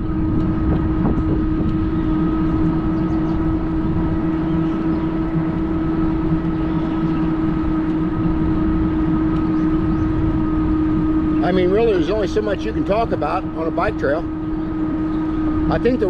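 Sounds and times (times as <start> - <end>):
electric bike motor whine: 0.0 - 16.0
low rumble: 0.0 - 16.0.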